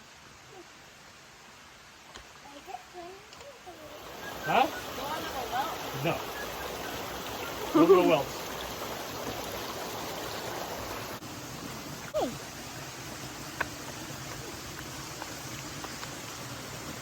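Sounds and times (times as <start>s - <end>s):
stream water over rocks: 0.0s - 17.0s.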